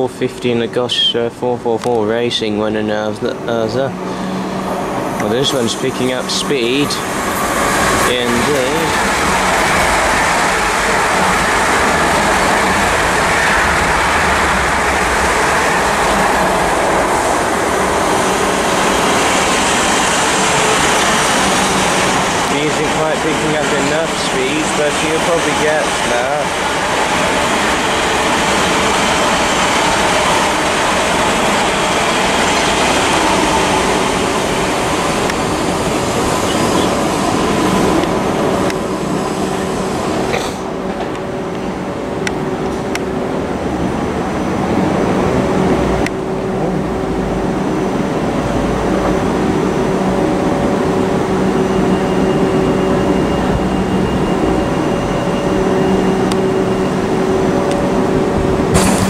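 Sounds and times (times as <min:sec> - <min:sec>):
electric train hum and rumble: 0:00.0 - 0:59.0
train wheels rushing on rails: 0:00.0 - 0:59.0.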